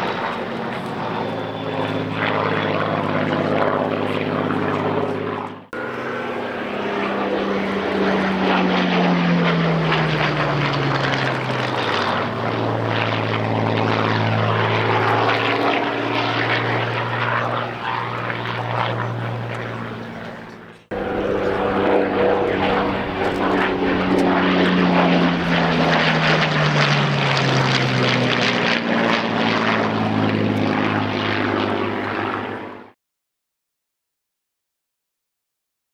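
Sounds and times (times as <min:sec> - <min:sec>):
propeller planes flying past: 0:00.0 - 0:33.0.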